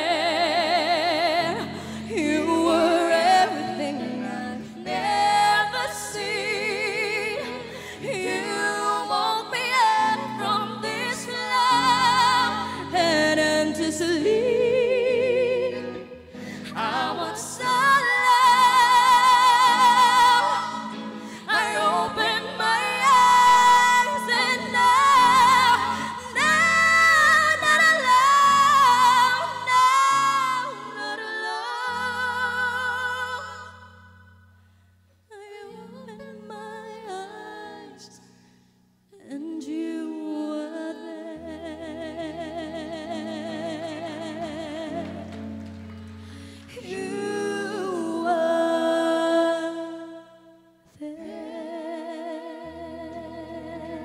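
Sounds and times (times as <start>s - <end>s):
woman singing with vibrato: 0.0s - 34.2s, 39.1s - 45.3s, 46.7s - 54.0s.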